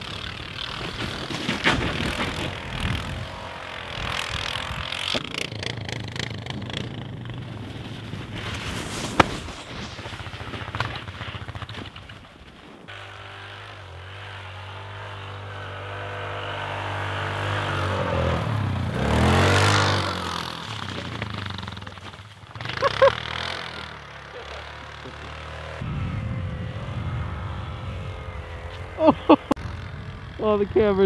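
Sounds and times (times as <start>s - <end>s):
atv engine driving past: 0.0s - 8.6s, 12.9s - 31.0s.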